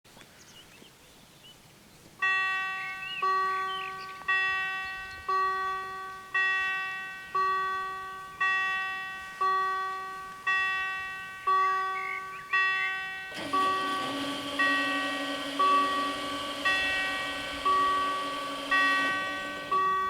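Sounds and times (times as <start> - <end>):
level crossing warning bells: 2.2 - 20.0.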